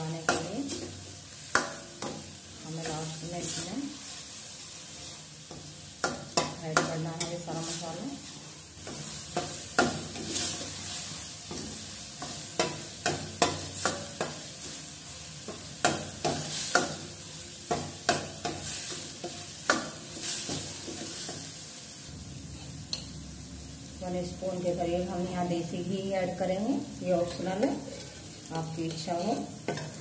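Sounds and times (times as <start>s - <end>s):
oil sizzling: 0.0s - 30.0s.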